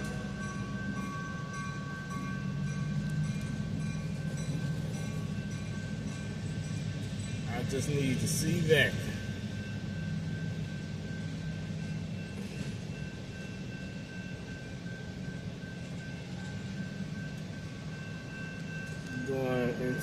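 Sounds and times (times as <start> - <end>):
model locomotive low drone: 0.0 - 20.0.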